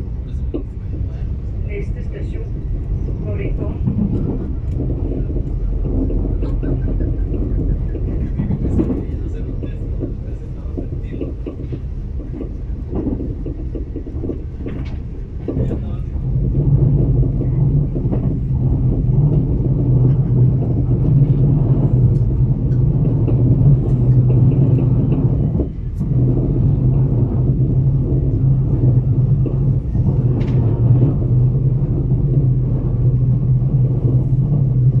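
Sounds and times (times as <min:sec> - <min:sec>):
vehicle cabin rumble and hum: 0:00.0 - 0:35.0.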